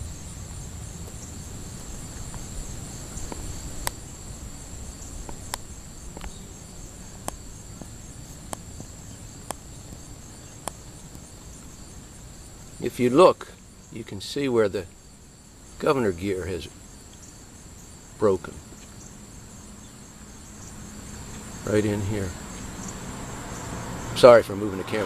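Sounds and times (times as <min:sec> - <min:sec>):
high-pitched insect trilling: 0:00.0 - 0:25.0.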